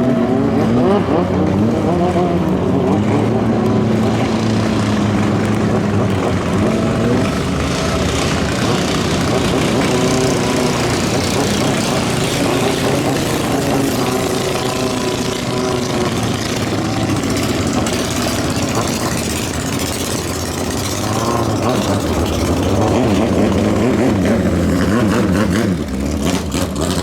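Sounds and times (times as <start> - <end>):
racing boat engine revving: 0.0 - 27.0.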